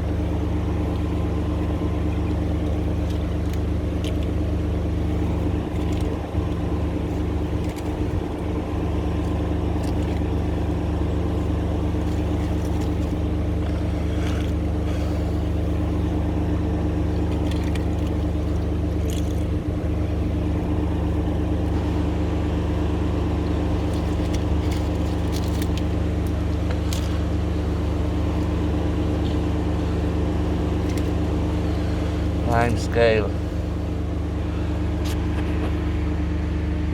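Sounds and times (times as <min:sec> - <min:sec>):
jetting machine engine running: 0:00.0 - 0:36.9.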